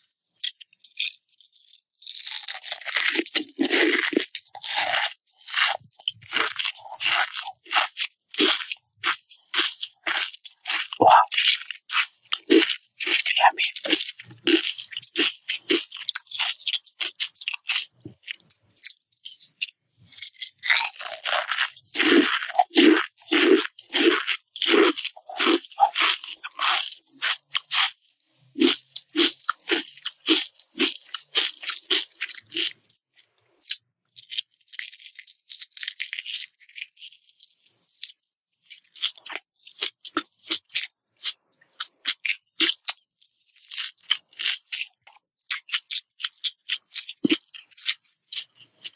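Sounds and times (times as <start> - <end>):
chewing pancake: 0.0 - 48.9
crunching potato crisps: 0.3 - 48.9.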